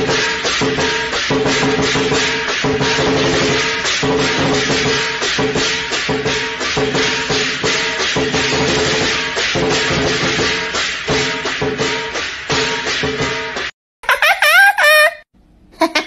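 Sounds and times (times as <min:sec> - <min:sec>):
music with percussive beat: 0:00.0 - 0:13.7.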